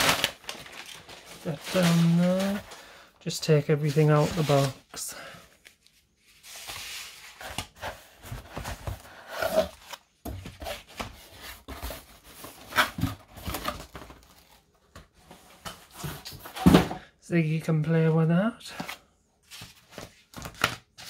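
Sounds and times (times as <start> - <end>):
cardboard and paper rustling: 0.0 - 17.1, 18.7 - 21.0.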